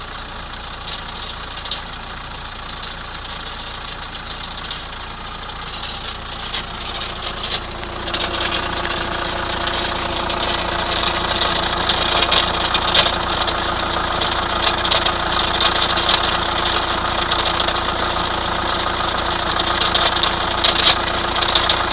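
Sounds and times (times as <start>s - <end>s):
diesel engine idling: 0.0s - 21.9s
sharp irregular engine ticking: 0.0s - 21.9s.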